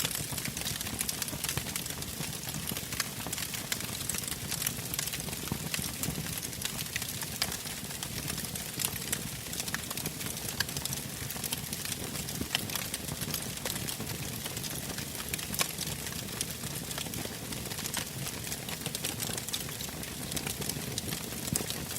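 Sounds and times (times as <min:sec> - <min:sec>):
logs crackling and popping: 0:00.0 - 0:21.9.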